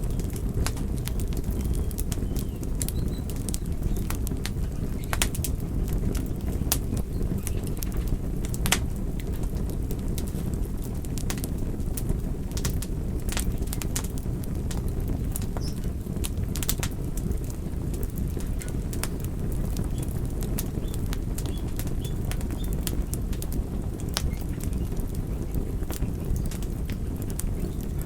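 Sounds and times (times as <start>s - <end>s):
low rumble of burning: 0.0s - 28.0s
wood fire crackling: 0.0s - 28.0s.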